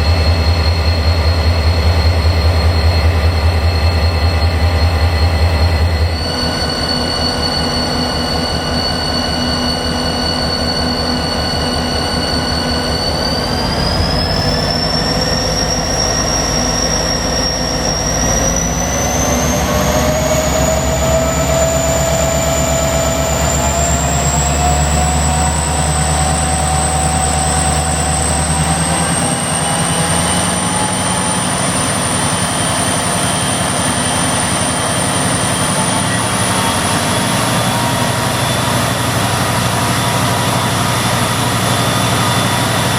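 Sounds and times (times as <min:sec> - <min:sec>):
locomotive diesel engine running: 0:00.0 - 0:42.9
turbocharger whine: 0:00.0 - 0:42.9.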